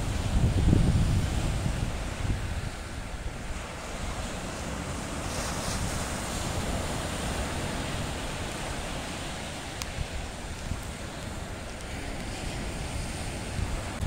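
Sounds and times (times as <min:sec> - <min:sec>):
sea surf washing in: 0:00.0 - 0:14.0
wind buffeting microphone: 0:00.0 - 0:14.0.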